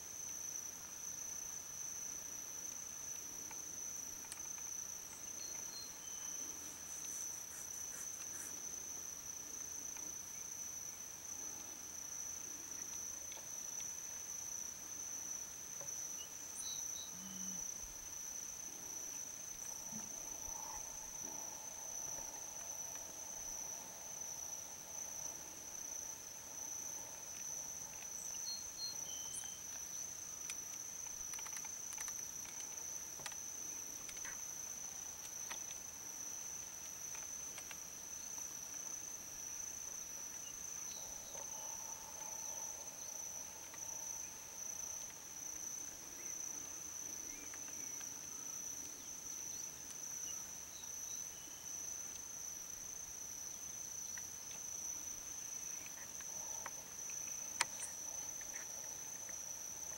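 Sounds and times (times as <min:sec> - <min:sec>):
faint chirps and ticks: 0:00.1 - 0:59.9.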